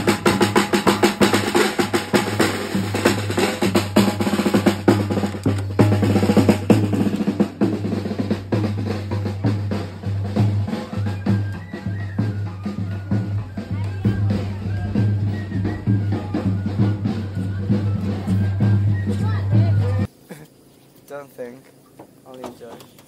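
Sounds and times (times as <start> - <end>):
snare drum rolls: 0.0 - 20.1.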